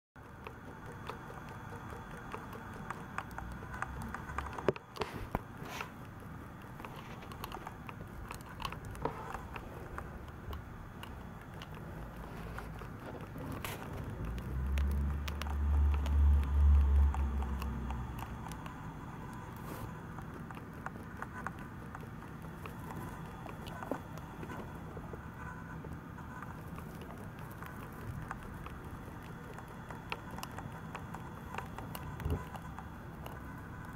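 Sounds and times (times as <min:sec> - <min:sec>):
mice nibbling and shuffling: 0:00.2 - 0:33.9.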